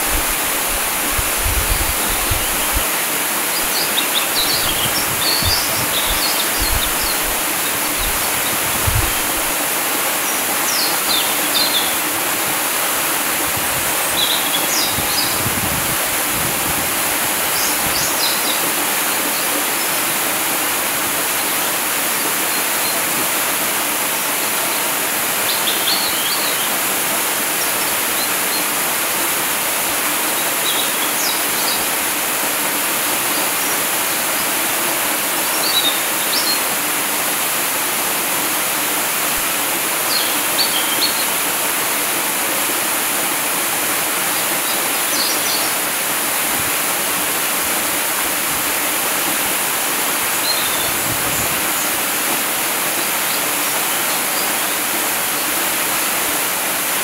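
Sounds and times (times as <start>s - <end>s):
waterfall pouring into pool: 0.0s - 57.0s.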